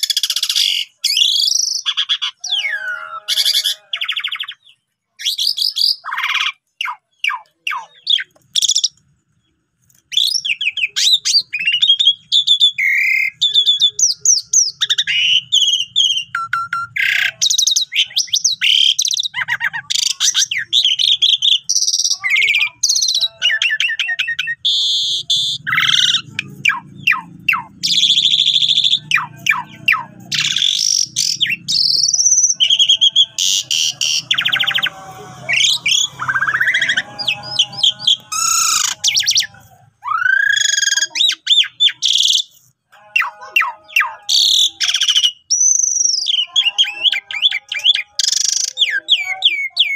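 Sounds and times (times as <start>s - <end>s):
starling singing: 0.0s - 9.0s, 10.0s - 49.9s.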